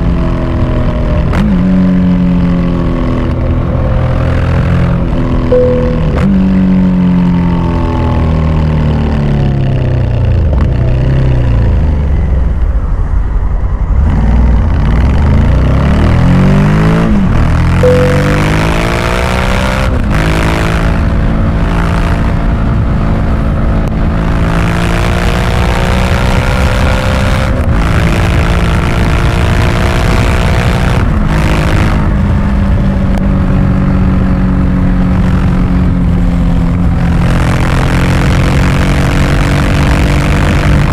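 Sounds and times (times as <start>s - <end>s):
motorcycle engine revving and shifting: 0.0s - 12.1s, 14.0s - 40.9s.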